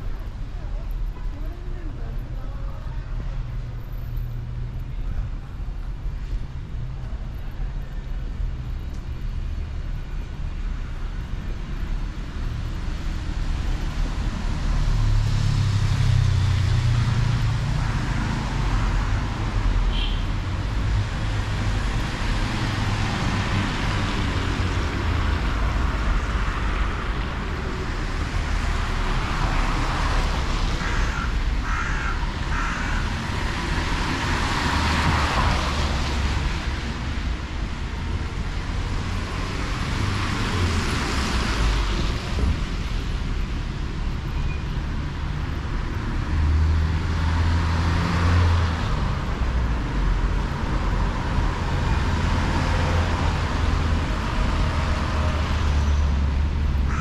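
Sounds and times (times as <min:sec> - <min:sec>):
traffic rumble: 0:00.0 - 0:57.0
tyres hissing on wet road: 0:08.4 - 0:57.0.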